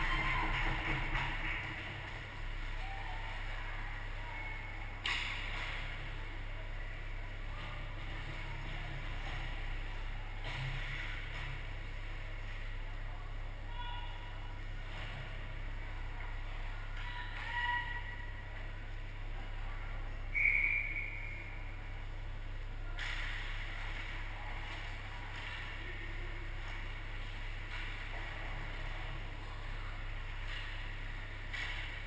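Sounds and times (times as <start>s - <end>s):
distant indistinct voices: 0.0s - 32.0s
low arena hum: 0.0s - 32.0s.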